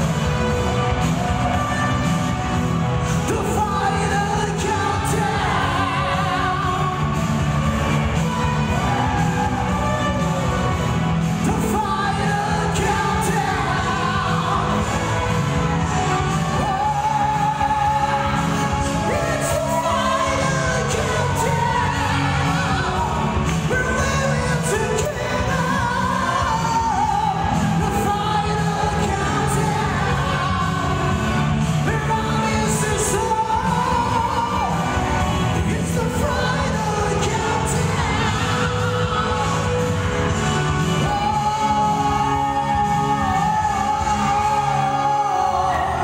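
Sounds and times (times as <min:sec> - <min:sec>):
backing music: 0:00.0 - 0:46.0
men singing into microphones: 0:00.0 - 0:46.0.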